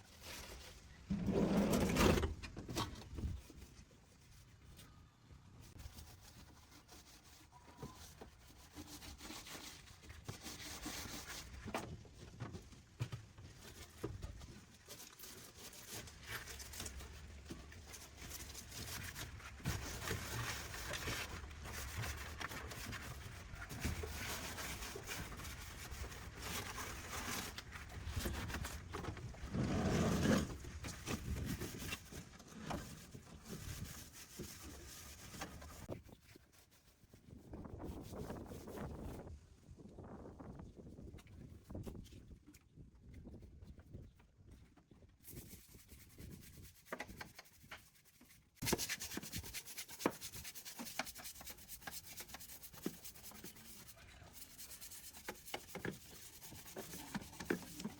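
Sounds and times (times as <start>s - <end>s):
rubbing and scraping by hand: 0.0s - 39.4s, 43.2s - 57.9s.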